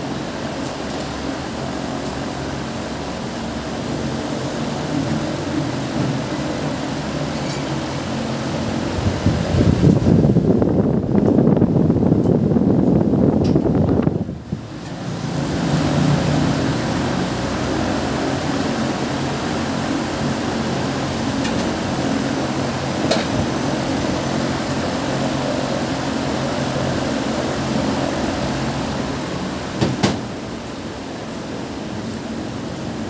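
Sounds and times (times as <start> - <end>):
mechanical drone with low hum: 0.0 - 33.0.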